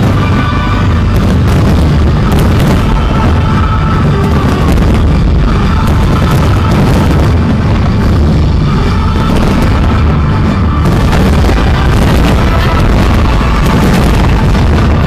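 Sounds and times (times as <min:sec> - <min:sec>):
fireworks booming: 0:00.0 - 0:15.0
loud show music: 0:00.0 - 0:15.0.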